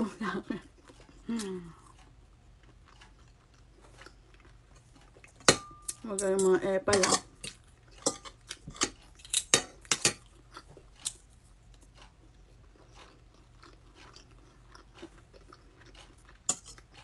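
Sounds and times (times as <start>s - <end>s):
person chewing: 0.6s - 6.4s, 7.2s - 17.0s.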